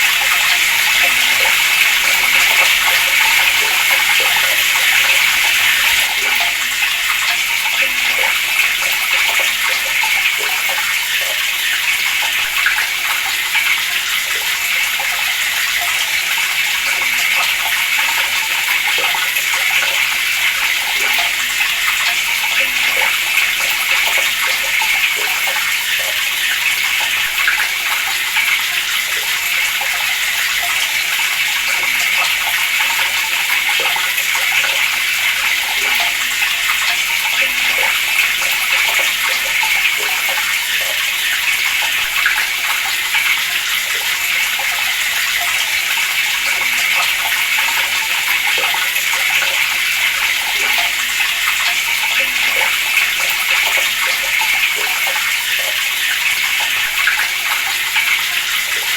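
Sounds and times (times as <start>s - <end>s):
water running from tap: 0.0s - 58.9s.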